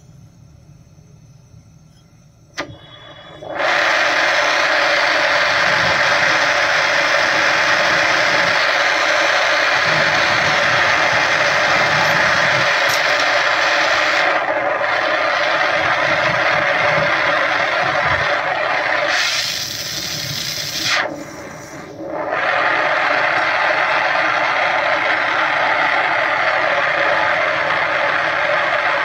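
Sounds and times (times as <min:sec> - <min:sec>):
torch flame hissing: 0:02.6 - 0:29.0.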